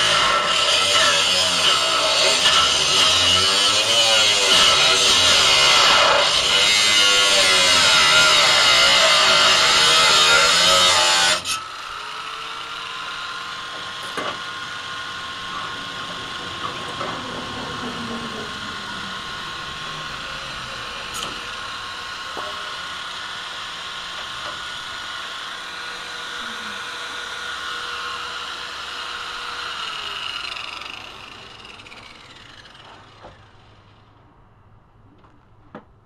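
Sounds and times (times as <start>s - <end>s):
machine whining: 0.0s - 34.3s.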